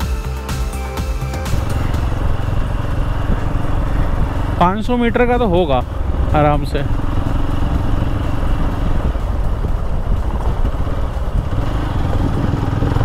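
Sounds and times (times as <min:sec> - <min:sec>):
motorcycle engine running: 0:00.0 - 0:13.0
wind and road noise: 0:01.5 - 0:13.0.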